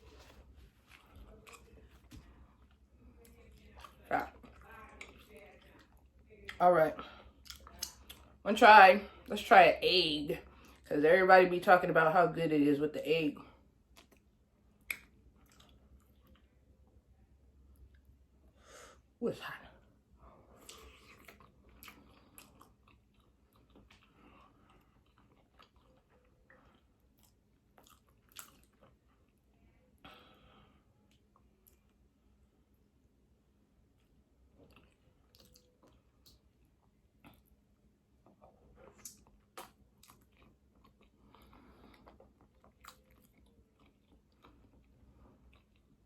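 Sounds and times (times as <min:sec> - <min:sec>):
person chewing food: 0:00.0 - 0:08.4, 0:13.6 - 0:18.4, 0:19.8 - 0:33.0, 0:33.6 - 0:46.0.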